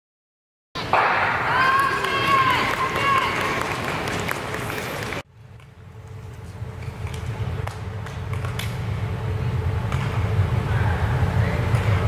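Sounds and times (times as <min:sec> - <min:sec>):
low rumble of ice arena: 0:00.8 - 0:12.0.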